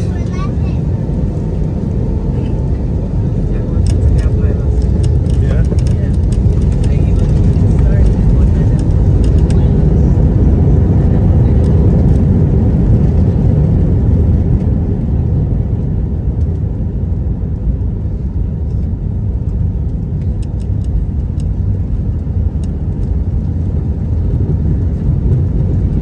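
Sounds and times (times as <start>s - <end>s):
moving vehicle rumble: 0.0s - 26.0s.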